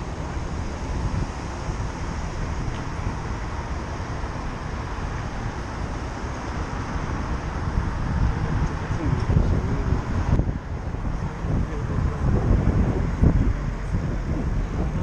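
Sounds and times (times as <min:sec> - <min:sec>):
street noise hiss: 0:00.0 - 0:15.0
wind buffeting microphone: 0:00.0 - 0:15.0.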